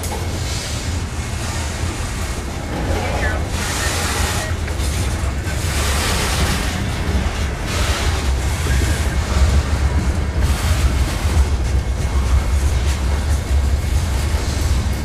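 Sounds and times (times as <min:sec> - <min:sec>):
rushing noise: 0:00.0 - 0:15.0
steel wheels rumbling on rail: 0:00.0 - 0:15.0.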